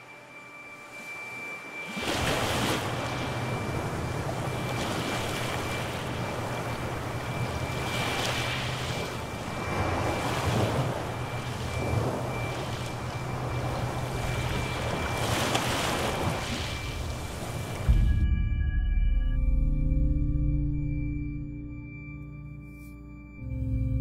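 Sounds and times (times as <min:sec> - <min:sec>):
ocean waves washing in: 0:00.0 - 0:19.3
low hum: 0:00.0 - 0:24.0
thin steady high tone: 0:00.0 - 0:24.0.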